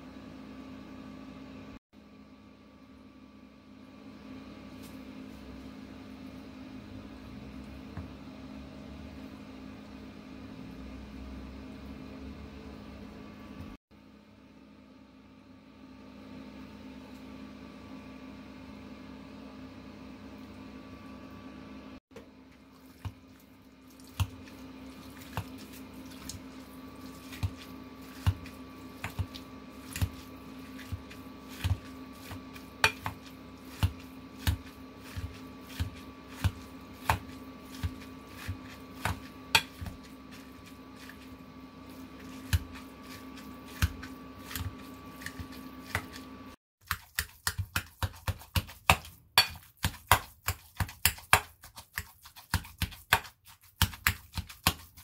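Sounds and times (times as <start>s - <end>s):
appliance hum: 0.0s - 55.0s.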